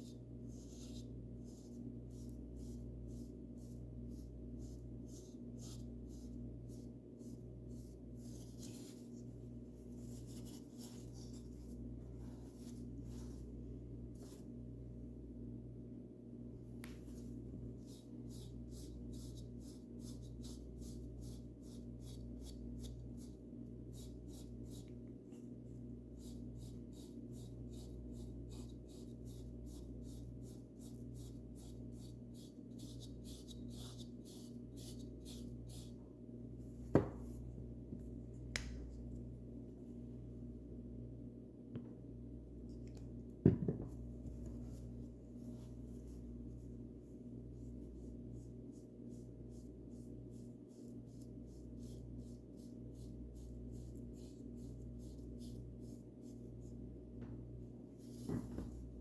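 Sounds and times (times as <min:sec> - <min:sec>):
paintbrush strokes: 0:00.0 - 0:15.1, 0:16.7 - 0:40.1, 0:43.8 - 0:59.0.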